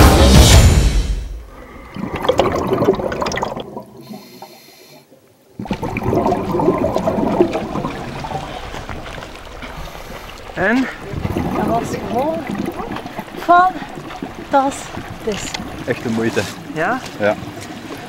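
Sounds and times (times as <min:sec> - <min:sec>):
water sloshing and splashing: 0:01.5 - 0:04.5, 0:05.5 - 0:18.0.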